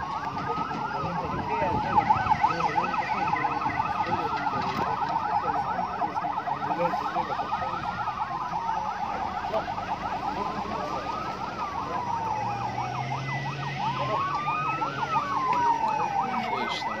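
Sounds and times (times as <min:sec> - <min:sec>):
siren fast yelp: 0:00.0 - 0:17.0
siren slow wail: 0:00.0 - 0:17.0.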